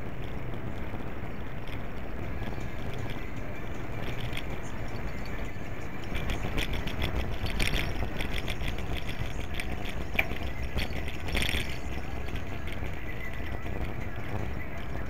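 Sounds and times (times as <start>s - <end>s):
bicycle rattling clicks: 0.0s - 15.0s
wind and tyres rumbling: 0.0s - 15.0s.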